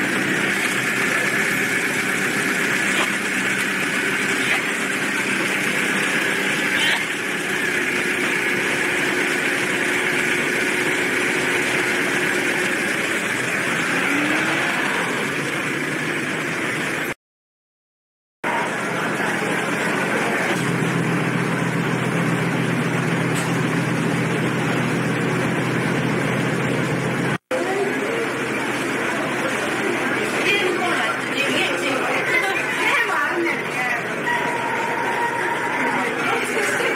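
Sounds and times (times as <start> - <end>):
ferry engines droning: 0.0 - 17.2, 18.4 - 36.9
vehicles idling: 0.0 - 17.2, 18.5 - 36.9.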